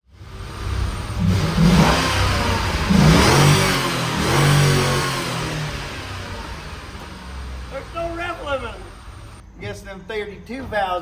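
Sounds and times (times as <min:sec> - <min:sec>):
engine revving hard: 0:00.1 - 0:09.4.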